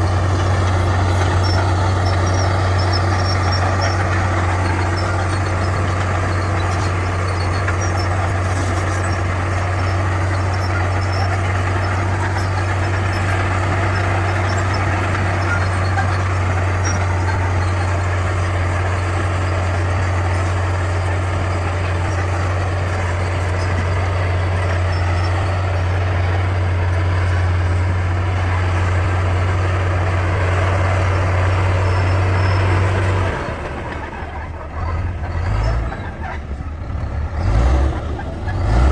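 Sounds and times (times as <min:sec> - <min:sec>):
bulldozer diesel engine droning: 0:00.0 - 0:38.9.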